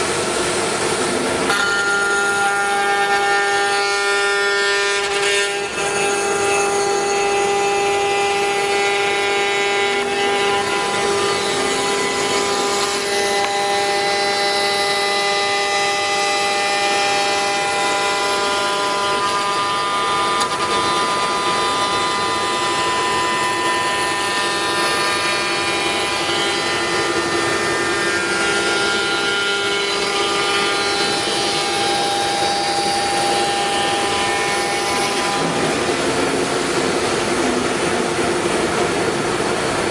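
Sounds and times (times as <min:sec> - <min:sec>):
router spindle whining: 0:01.4 - 0:38.4.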